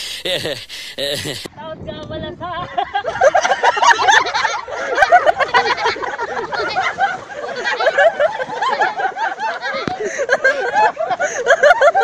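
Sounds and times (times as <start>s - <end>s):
young men laughing and shouting: 0.0s - 1.5s, 2.5s - 12.0s.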